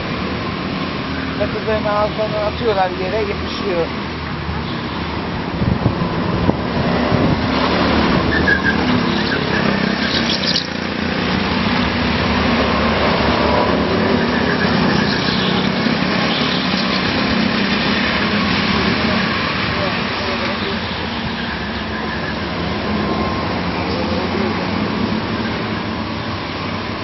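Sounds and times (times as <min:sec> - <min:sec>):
go-kart engines droning: 0:04.6 - 0:27.0.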